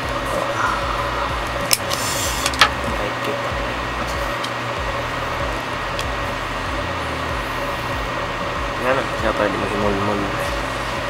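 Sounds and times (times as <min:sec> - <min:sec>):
mechanical whir and hum: 0:00.0 - 0:11.0.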